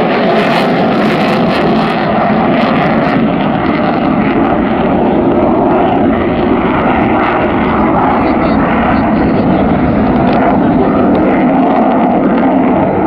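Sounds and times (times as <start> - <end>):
jet engines in afterburner: 0.0 - 13.0.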